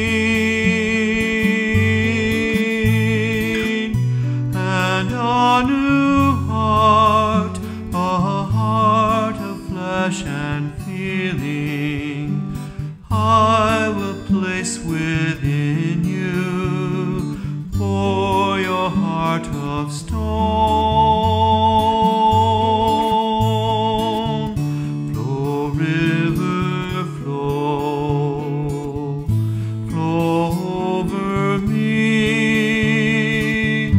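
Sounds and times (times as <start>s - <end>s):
acoustic guitar: 0.0s - 33.9s
man singing with vibrato: 0.0s - 33.9s.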